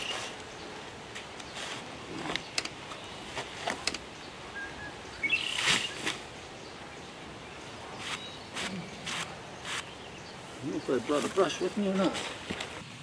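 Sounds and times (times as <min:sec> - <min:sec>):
rustling in grass and brush: 0:00.0 - 0:13.0.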